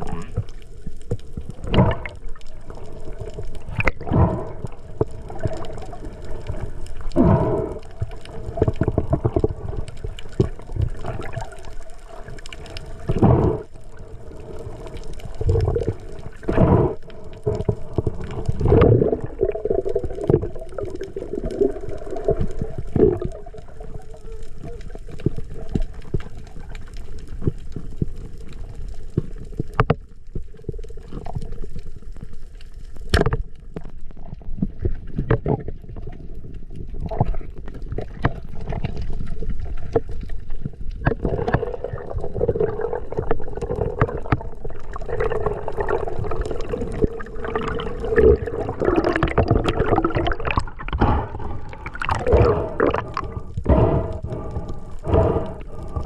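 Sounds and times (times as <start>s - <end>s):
rushes of bubbles: 0.0s - 56.0s
underwater rushing and gurgling: 0.0s - 56.0s.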